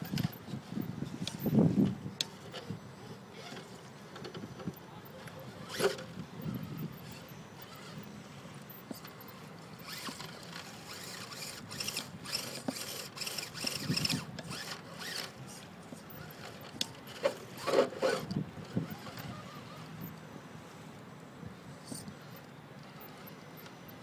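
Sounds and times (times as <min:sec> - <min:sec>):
rc car motor whirring: 0:00.0 - 0:20.2, 0:21.8 - 0:24.0.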